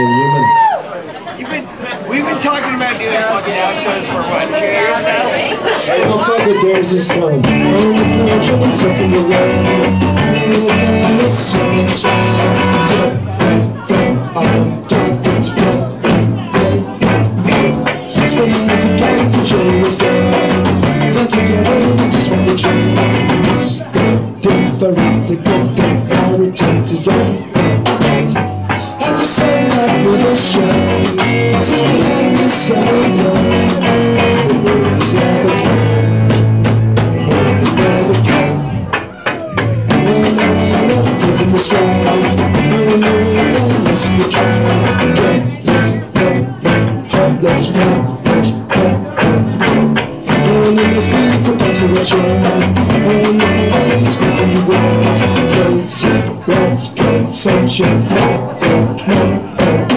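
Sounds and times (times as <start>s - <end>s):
live band playing: 0.0s - 59.9s
person singing: 5.8s - 59.9s.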